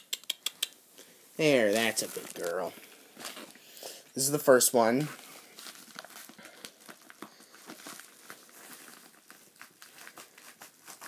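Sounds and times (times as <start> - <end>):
package crinkling and rustling: 1.5 - 3.8, 4.4 - 11.0.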